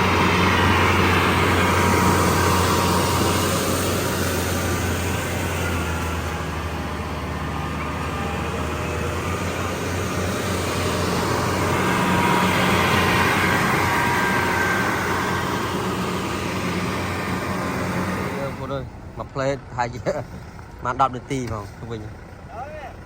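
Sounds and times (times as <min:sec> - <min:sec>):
noisy rush: 0:00.0 - 0:19.7
engine running with low hum: 0:00.0 - 0:23.0.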